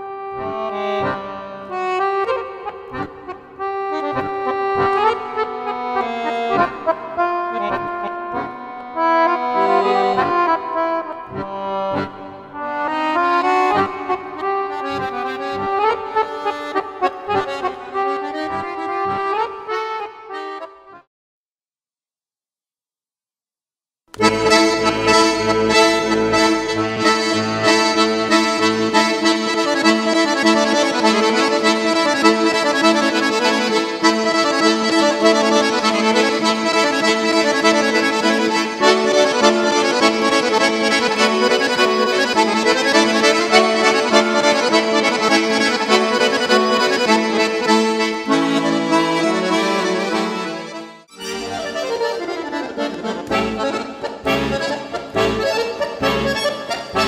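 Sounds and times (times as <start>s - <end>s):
accordions playing a folk tune: 0.0s - 21.1s, 24.1s - 57.0s.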